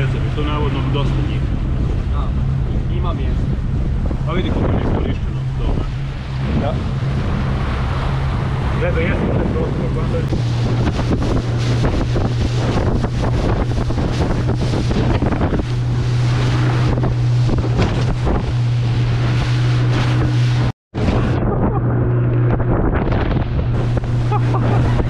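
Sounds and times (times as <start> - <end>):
motorboat engine running: 0.0 - 25.0
water rushing past hull: 0.0 - 25.0
wind buffeting on microphone: 0.0 - 25.0.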